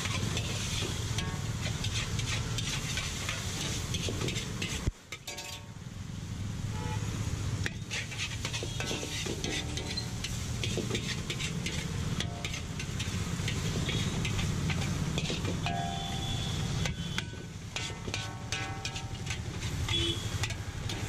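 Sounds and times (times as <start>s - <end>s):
metal spatula scraping wok: 0.0s - 5.8s, 7.5s - 21.0s
chicken sizzling: 0.0s - 21.0s.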